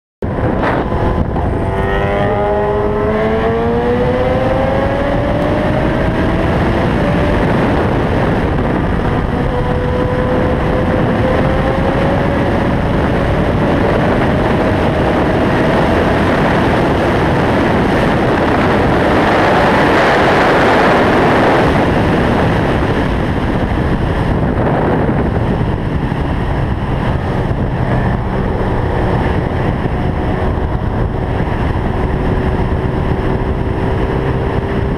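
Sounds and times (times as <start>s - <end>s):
motorcycle engine accelerating: 0.2s - 34.9s
wind rush on microphone: 0.2s - 34.9s.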